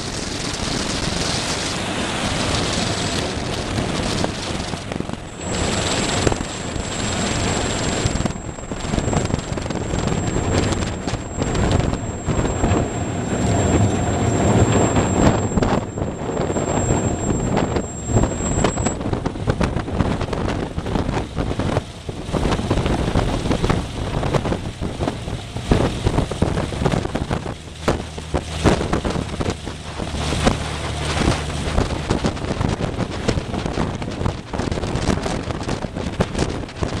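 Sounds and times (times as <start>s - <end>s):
plane engine rumble: 0.0s - 37.0s
wind buffeting microphone: 0.0s - 37.0s.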